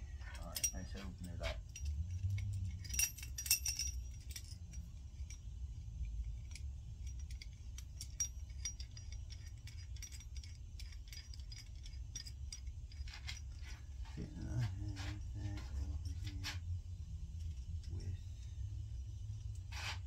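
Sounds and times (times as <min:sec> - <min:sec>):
steady low rumble: 0:00.0 - 0:20.0
metal hand tools clinking: 0:00.2 - 0:16.6.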